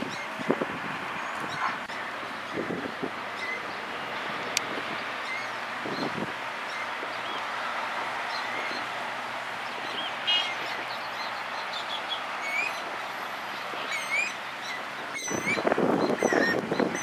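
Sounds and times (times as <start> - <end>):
birds chirping: 1.1 - 17.0.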